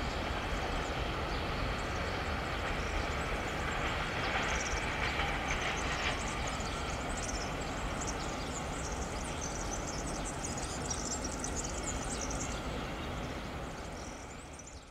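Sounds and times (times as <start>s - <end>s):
freight train rumble: 0.0s - 14.9s.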